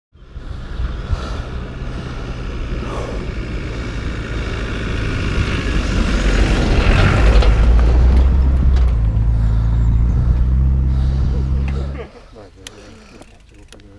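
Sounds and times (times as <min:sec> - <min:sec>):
off-road vehicle engine passing: 0:00.2 - 0:13.9.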